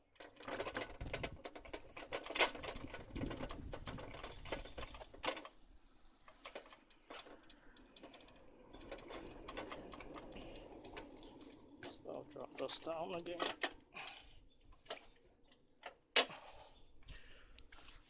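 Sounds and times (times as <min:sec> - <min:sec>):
saw stand wheels rattling: 0:00.0 - 0:16.9.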